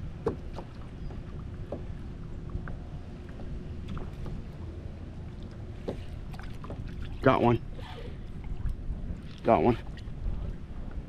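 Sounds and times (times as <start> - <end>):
water lapping against hull: 0.0 - 11.0
wind buffeting microphone: 0.0 - 11.0.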